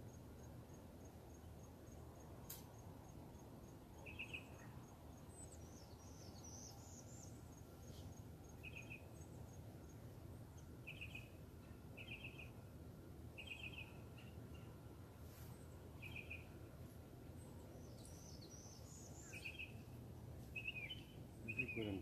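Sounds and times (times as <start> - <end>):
faint trilled birdsong: 0.0 - 22.0.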